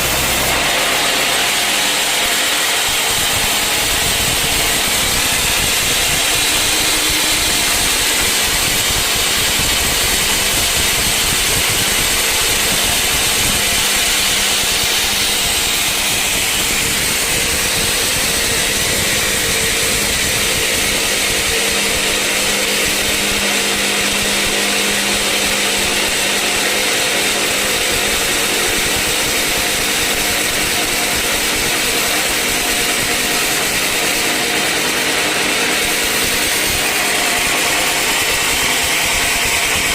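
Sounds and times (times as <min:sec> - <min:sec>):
machinery humming: 0:00.0 - 0:39.9
sawmill saw high hiss: 0:00.0 - 0:39.9.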